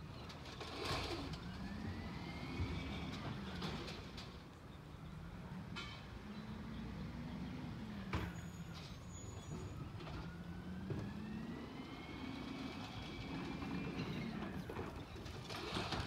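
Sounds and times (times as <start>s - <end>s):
garbage truck engine revving: 0.6s - 4.2s, 6.2s - 16.0s.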